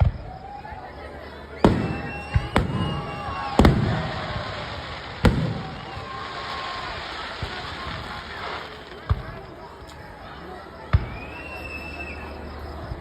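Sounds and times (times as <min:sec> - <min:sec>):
fireworks exploding with echo: 0:00.0 - 0:00.7, 0:01.4 - 0:11.6.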